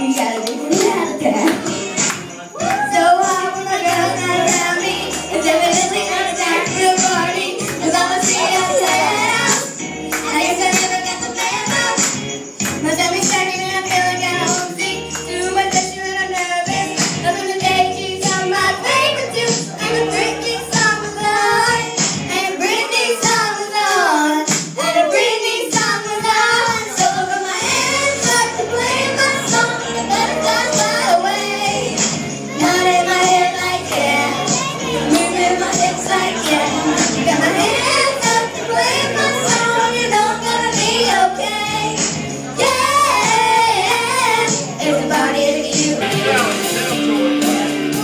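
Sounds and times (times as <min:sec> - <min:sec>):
girls singing into microphones: 0:00.0 - 0:47.1
karaoke backing track: 0:00.0 - 0:48.0.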